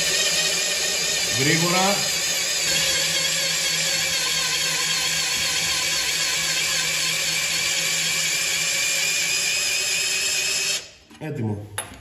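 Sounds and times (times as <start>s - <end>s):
electric drill motor running: 0.0s - 10.9s.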